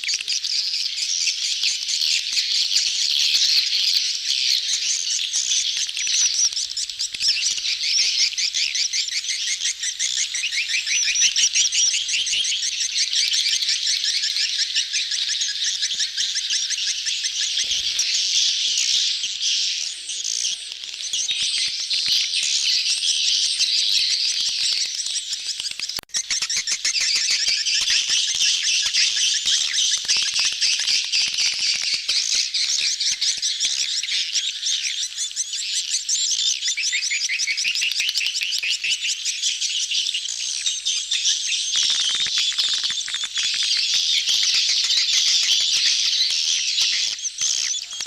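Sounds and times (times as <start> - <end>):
swiftlets chirping and twittering: 0.0 - 48.0.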